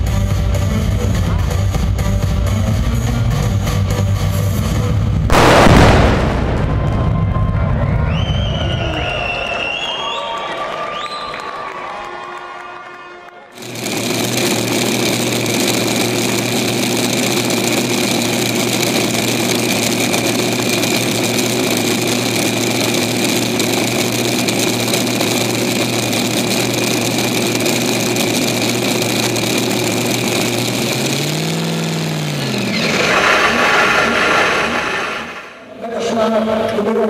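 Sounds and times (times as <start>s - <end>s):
tractor engines idling and revving: 0.0s - 8.8s, 13.6s - 35.7s.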